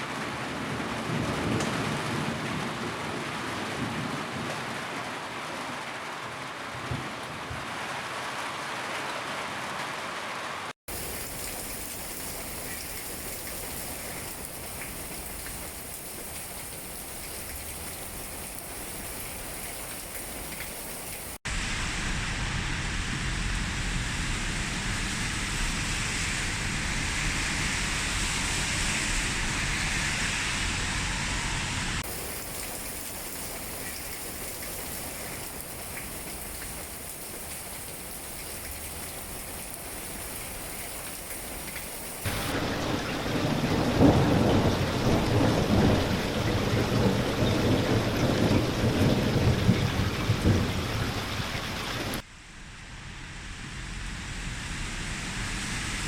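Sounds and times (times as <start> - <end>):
steady rain falling: 0.0 - 25.8, 32.0 - 52.3.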